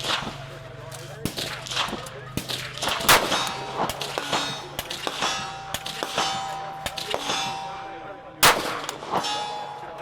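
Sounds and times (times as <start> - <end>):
gunshots: 0.0 - 10.0
steel targets clanging: 0.0 - 10.0.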